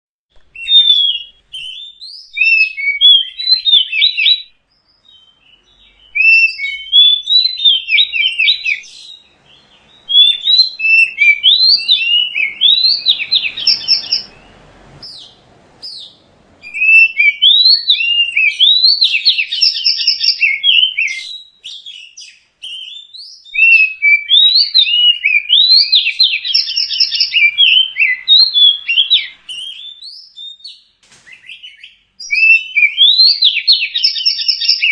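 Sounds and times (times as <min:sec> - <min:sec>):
magpie-robin singing: 0:00.4 - 0:34.9.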